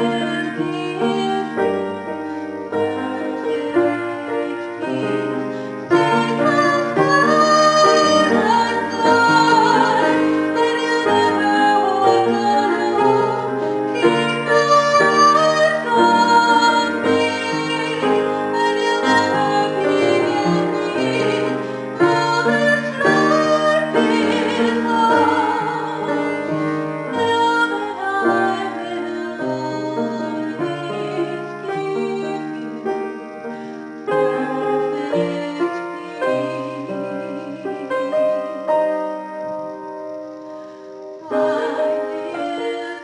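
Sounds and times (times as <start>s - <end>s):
instrumental music: 0.0s - 43.0s.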